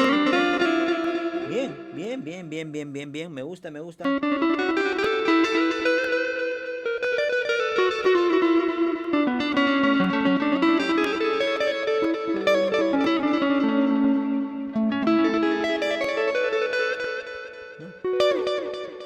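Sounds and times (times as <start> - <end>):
electric guitar melody with delay: 0.0 - 2.5, 4.0 - 19.0.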